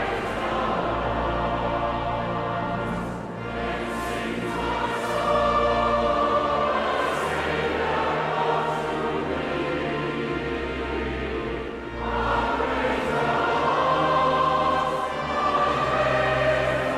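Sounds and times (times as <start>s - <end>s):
choir singing a hymn: 0.0s - 16.9s
low accompanying notes: 0.0s - 16.9s.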